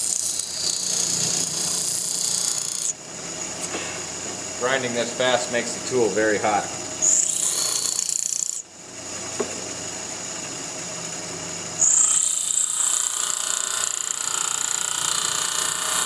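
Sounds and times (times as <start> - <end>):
bench grinder grinding metal: 0.0 - 8.6, 11.7 - 16.0
grinder running: 0.0 - 16.0.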